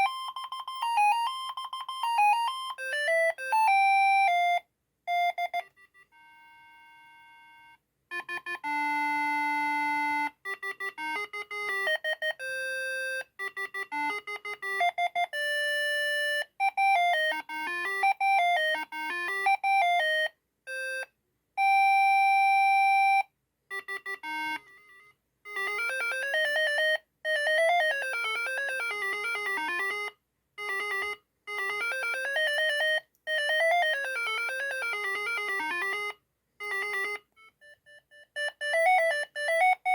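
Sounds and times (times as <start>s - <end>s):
mobile phone ringtone melodies: 0.0s - 39.9s.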